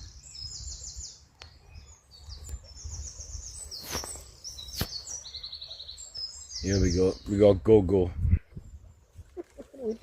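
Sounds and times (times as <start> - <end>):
songbirds trilling: 0.0 - 10.0.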